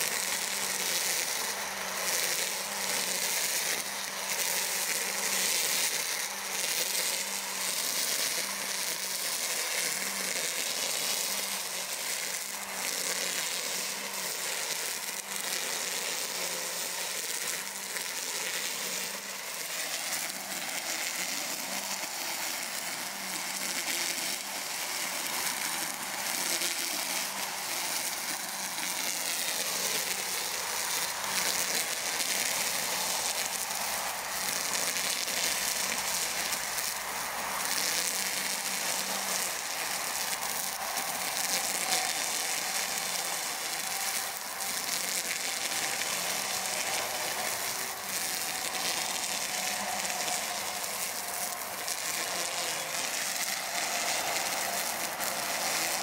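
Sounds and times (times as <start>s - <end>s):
electric motor hum: 0.0s - 56.0s.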